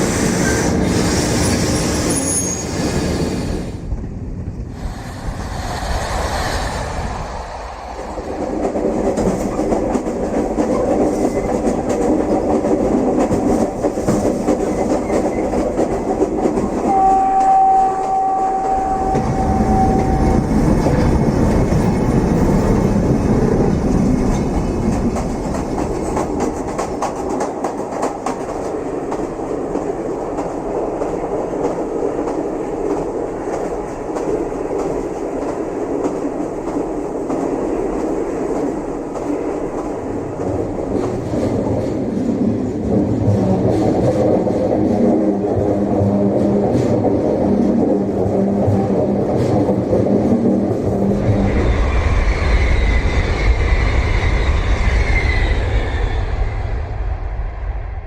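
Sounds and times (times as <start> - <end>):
train wheels clacking over rails: 0.0 - 3.8, 4.7 - 55.0.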